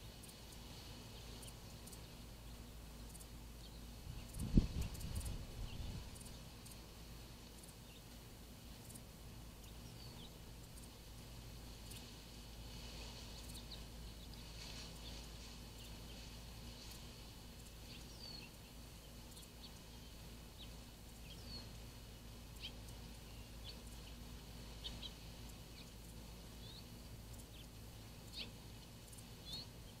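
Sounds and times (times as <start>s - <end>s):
low hiss and hum: 0.0s - 30.0s
small birds chirping: 0.0s - 30.0s.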